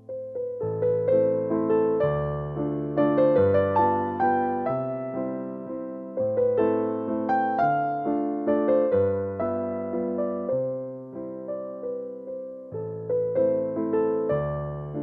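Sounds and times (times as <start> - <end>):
calm classical piano music: 0.0 - 15.0.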